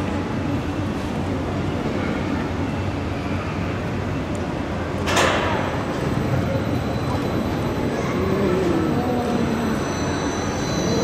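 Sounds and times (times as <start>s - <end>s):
crane low hum: 0.0s - 11.0s.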